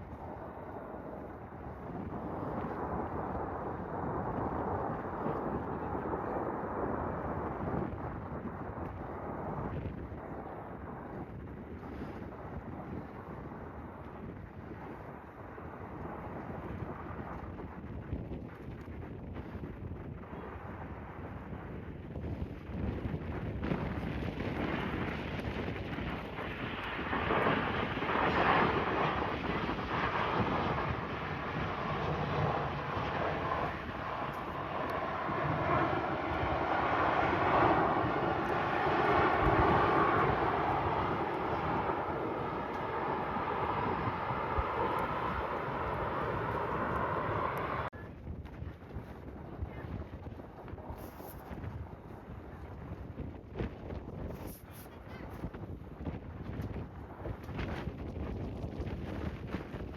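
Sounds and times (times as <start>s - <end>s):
airliner engine noise: 0.0s - 53.2s
gusty wind buffeting microphone: 0.0s - 59.9s.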